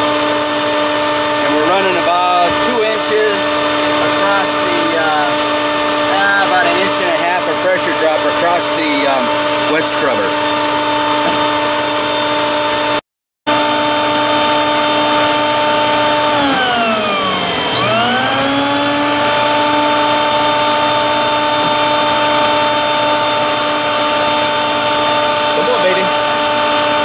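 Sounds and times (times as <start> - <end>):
electric fan motor whining: 0.0 - 27.0.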